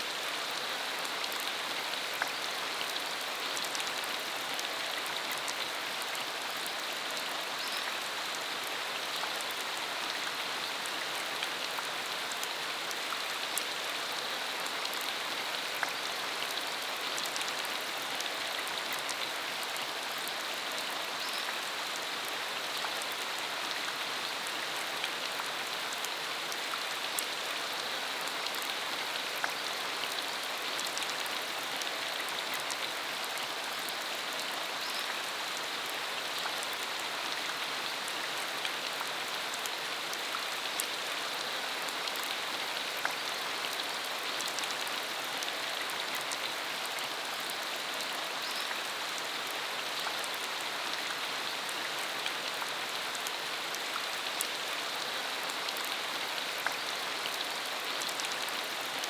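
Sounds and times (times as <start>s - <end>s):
rain hissing on a dirt road: 0.0s - 59.0s.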